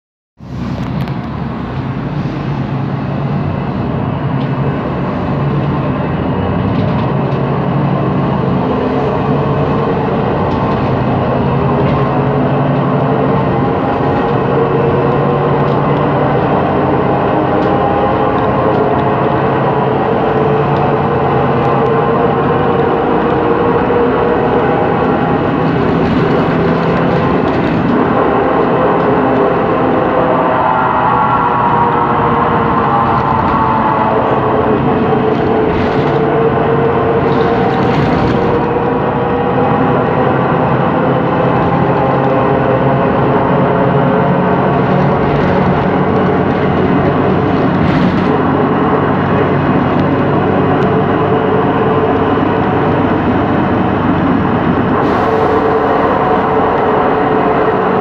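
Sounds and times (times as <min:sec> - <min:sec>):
bus drivetrain hum: 0:00.4 - 0:58.0.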